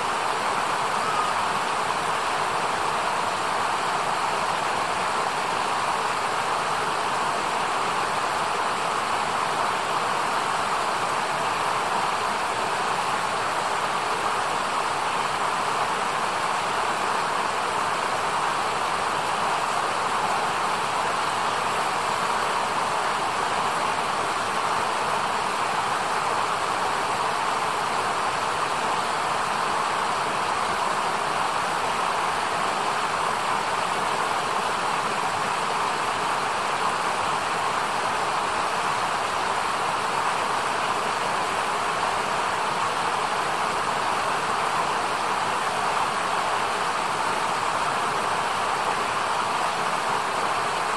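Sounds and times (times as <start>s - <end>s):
river rushing over rocks: 0.0s - 50.9s.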